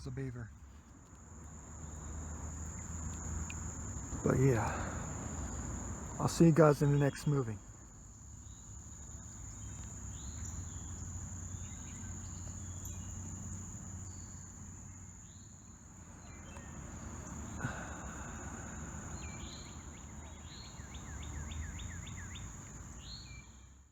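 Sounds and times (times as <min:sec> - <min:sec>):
insects droning: 0:00.0 - 0:23.9
bird calls: 0:01.8 - 0:23.8.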